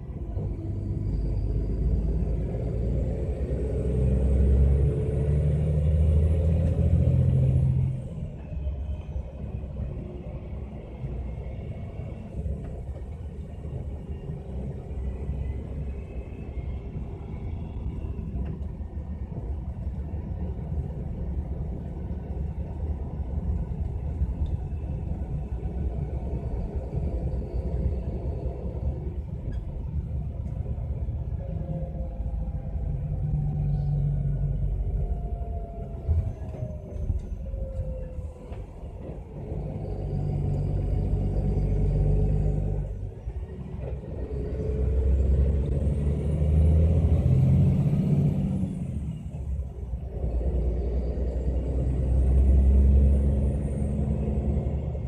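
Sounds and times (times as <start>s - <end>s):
bus driveline rumble: 0.0s - 55.0s.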